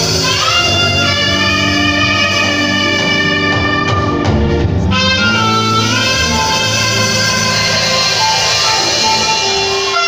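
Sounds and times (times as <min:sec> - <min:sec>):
drums: 0:00.0 - 0:10.0
keyboards: 0:00.0 - 0:10.0
saxophone long note: 0:00.0 - 0:10.0.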